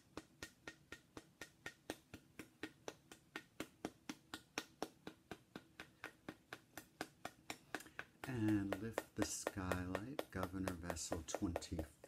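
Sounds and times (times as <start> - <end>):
small hammer tapping: 0.0 - 12.0.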